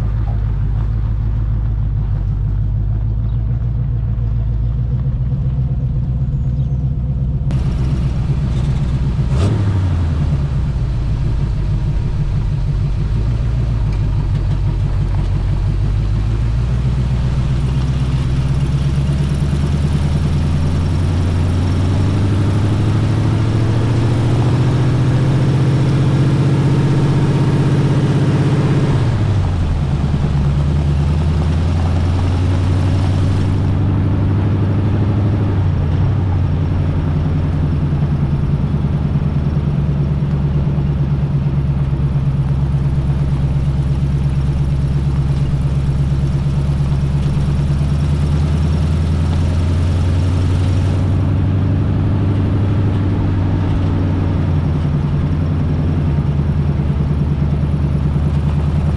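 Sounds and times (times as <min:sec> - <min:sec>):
pickup truck engine running: 0:00.0 - 0:58.9.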